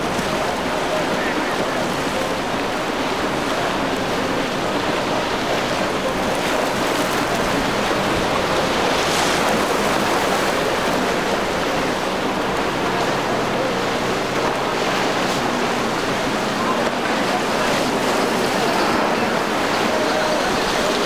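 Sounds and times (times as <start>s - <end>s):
faint boat engine running: 0.0s - 21.0s
surf washing: 0.0s - 21.0s.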